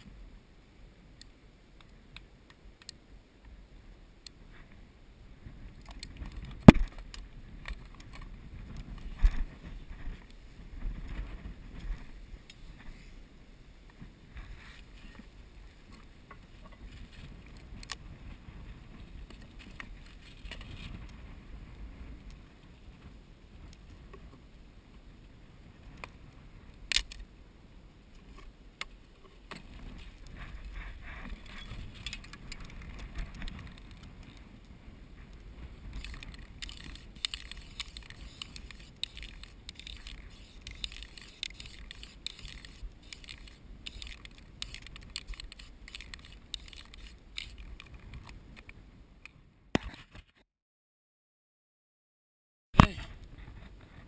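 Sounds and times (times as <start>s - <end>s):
wind rumble on microphone: 3.4s - 49.7s, 52.8s - 54.0s.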